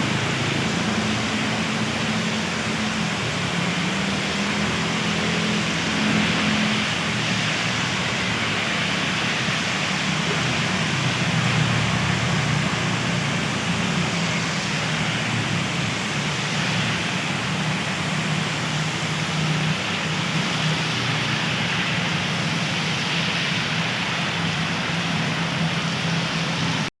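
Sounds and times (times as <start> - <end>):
steady rain: 0.0 - 26.9.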